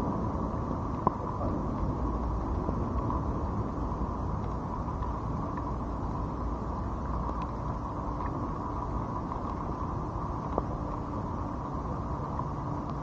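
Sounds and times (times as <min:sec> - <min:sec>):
rain: 0:00.0 - 0:13.0
wind on microphone: 0:00.0 - 0:13.0.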